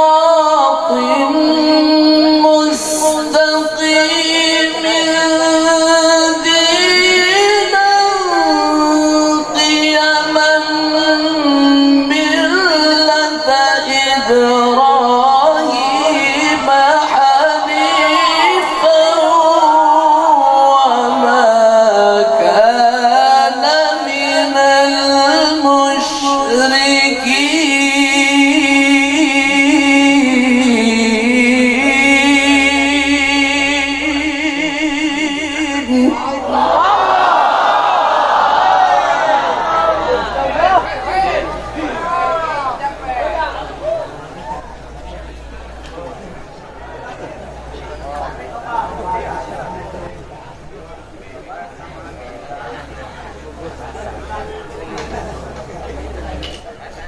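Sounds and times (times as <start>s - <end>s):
man reciting in melodious chant: 0.0s - 36.6s, 47.2s - 57.0s.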